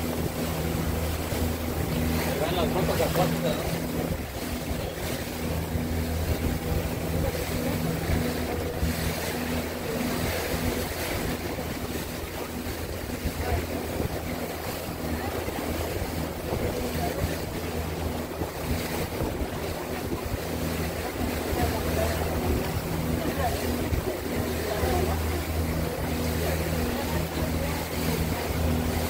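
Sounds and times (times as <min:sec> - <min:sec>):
motorboat engine humming: 0:00.0 - 0:29.0
water rushing along hull: 0:00.0 - 0:29.0
wind on microphone: 0:00.0 - 0:29.0.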